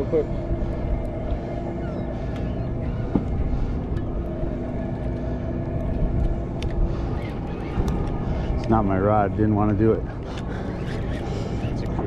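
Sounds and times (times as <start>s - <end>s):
boat machinery drone: 0.0s - 12.0s
sea noise: 0.0s - 12.0s
wind: 0.0s - 12.0s.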